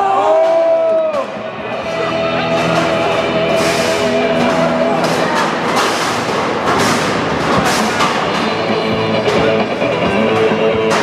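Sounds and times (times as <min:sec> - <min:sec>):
loud music with drum beat: 0:01.1 - 0:11.0.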